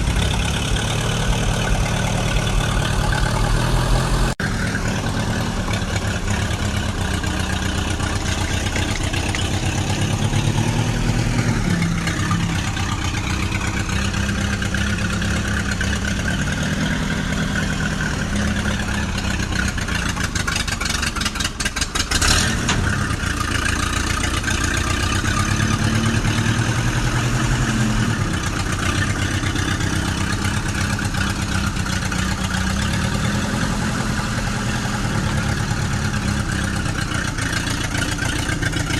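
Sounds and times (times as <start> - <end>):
tractor engine running: 0.0 - 38.9
rapid clattering: 4.4 - 38.9.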